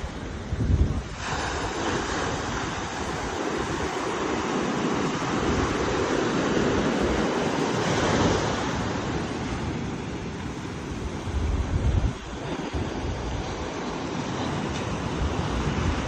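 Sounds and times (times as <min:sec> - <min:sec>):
ocean waves washing in: 0:00.0 - 0:16.0.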